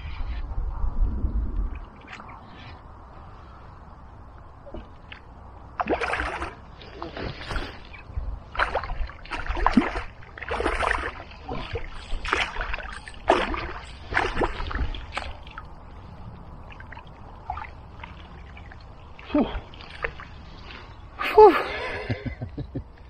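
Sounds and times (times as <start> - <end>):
water splashing and sloshing: 1.5 - 22.0.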